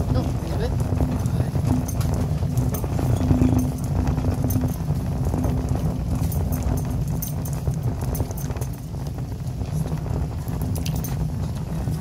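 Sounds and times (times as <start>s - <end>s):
shopping cart wheels rattling: 0.0s - 12.0s.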